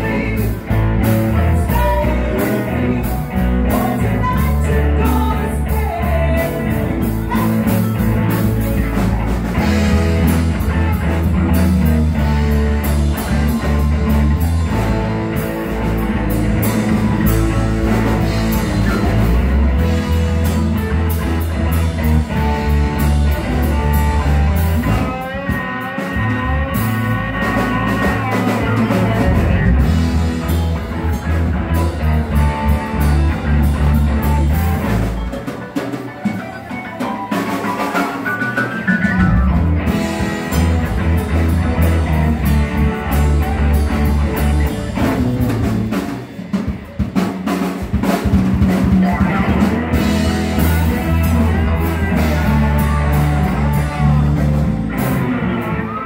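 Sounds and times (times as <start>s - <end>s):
bass guitar: 0.0s - 56.0s
drum kit: 0.0s - 56.0s
electric guitar lead: 0.0s - 56.0s.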